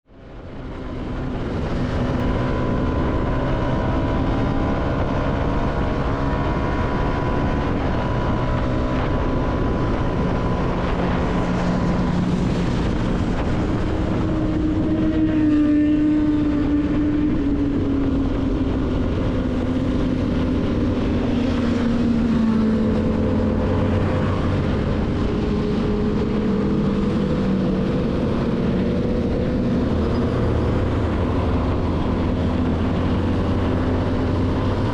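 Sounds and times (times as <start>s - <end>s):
wind noise: 0.1s - 34.9s
motorcycle engine running: 0.3s - 34.9s.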